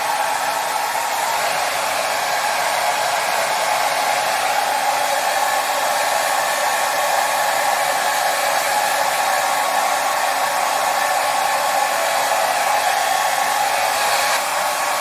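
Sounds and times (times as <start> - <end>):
hair dryer blowing: 0.0 - 15.0.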